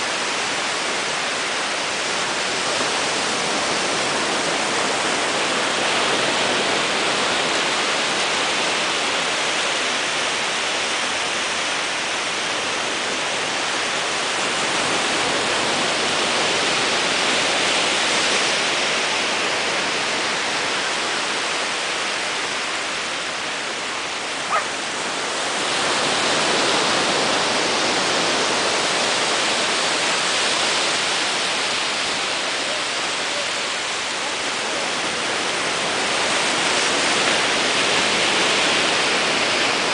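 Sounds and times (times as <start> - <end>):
waves breaking on beach: 0.0 - 39.9.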